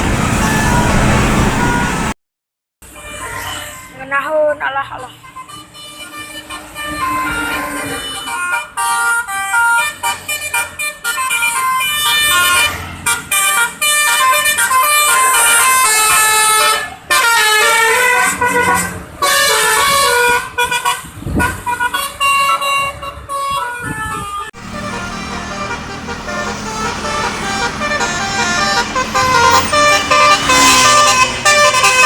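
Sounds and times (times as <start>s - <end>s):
bus horn playing fast melody: 0.0s - 2.1s, 2.8s - 4.1s, 5.0s - 32.0s.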